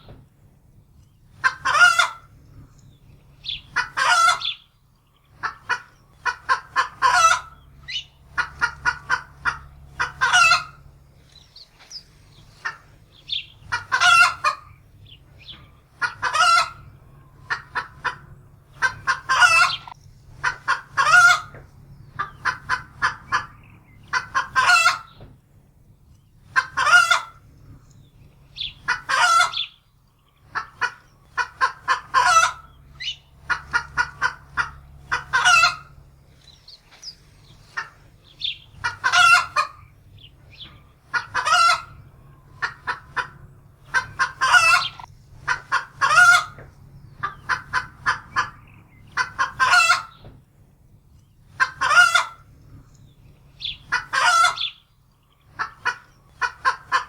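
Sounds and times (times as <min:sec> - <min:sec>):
faint low hum: 0:00.0 - 0:57.0
hen cackling: 0:01.3 - 0:02.4, 0:03.3 - 0:04.7, 0:05.3 - 0:25.2, 0:26.4 - 0:27.5, 0:28.4 - 0:50.3, 0:51.4 - 0:52.8, 0:53.4 - 0:57.0.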